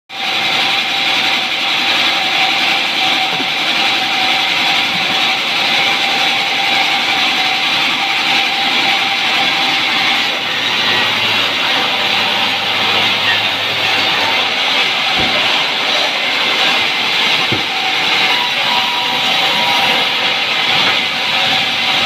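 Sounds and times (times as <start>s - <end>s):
band saw whining and hissing: 0.2s - 22.0s.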